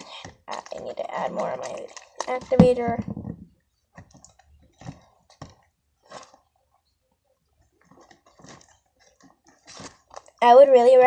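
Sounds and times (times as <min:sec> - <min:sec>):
slime squishing: 0:00.0 - 0:06.6, 0:07.6 - 0:10.5.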